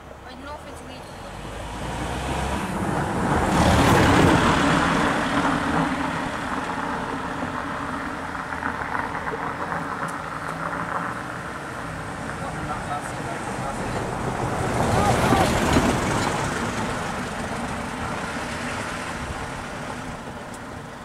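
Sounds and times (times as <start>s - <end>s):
van driving past: 0.3s - 21.0s.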